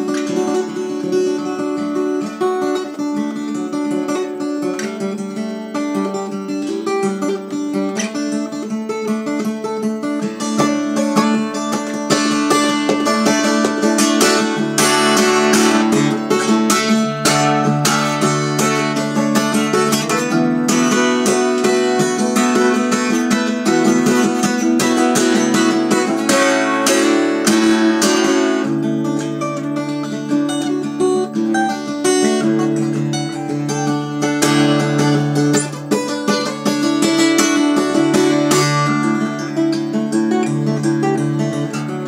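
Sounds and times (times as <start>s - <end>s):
acoustic guitar strumming and picking: 0.0s - 42.0s.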